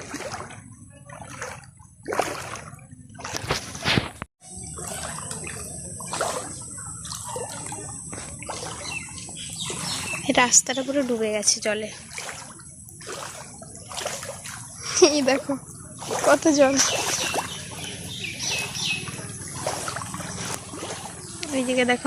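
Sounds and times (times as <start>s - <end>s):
footsteps splashing in water: 0.0s - 22.0s.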